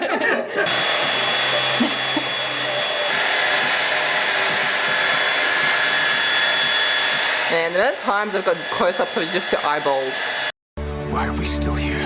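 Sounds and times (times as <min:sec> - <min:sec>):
hair dryer blowing: 0:00.6 - 0:10.6.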